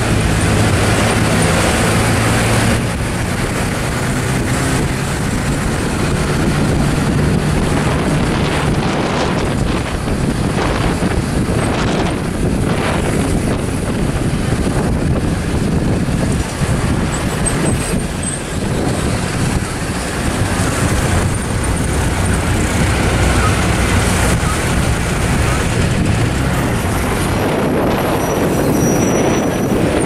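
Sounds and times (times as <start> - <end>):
truck road noise: 0.0 - 30.0
wind rushing: 0.0 - 30.0.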